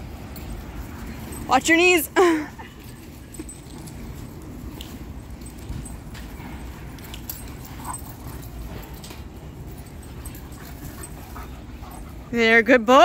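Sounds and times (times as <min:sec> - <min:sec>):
dogs scuffling: 0:00.0 - 0:12.4.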